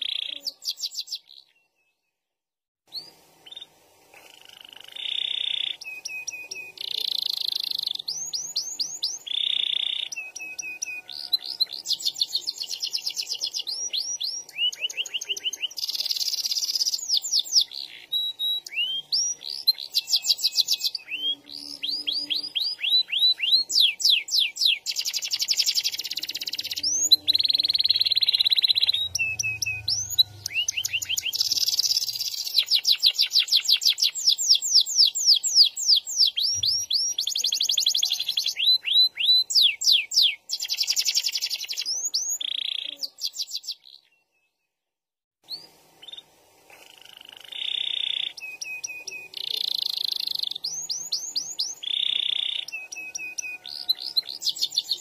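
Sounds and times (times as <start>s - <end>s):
canary singing: 0.0s - 2.0s, 2.9s - 44.5s, 45.4s - 55.0s.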